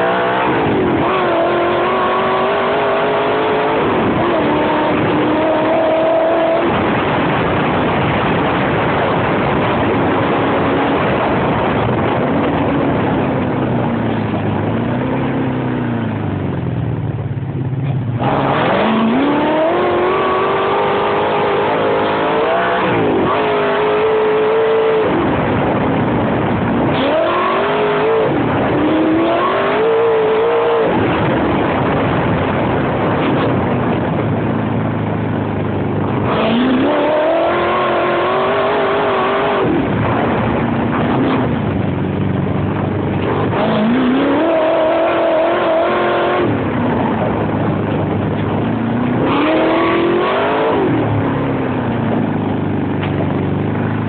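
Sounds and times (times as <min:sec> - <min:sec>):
engine accelerating hard: 0:00.0 - 0:54.0.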